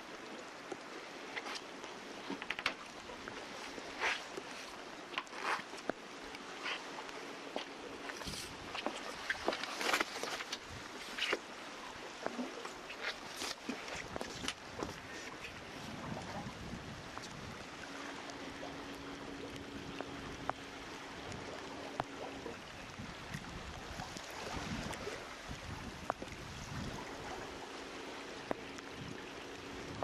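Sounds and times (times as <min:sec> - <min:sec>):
water lapping along hull: 0:00.0 - 0:30.0.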